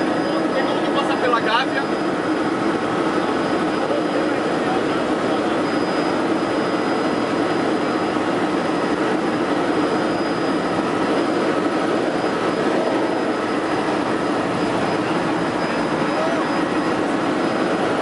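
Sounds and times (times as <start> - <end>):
faint high whine: 0.0 - 18.0
helicopter drone inside cabin: 0.0 - 18.0.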